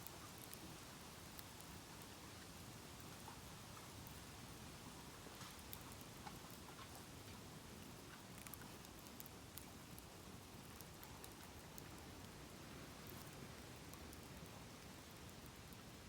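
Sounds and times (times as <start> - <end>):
bonfire crackling: 0.1 - 16.0.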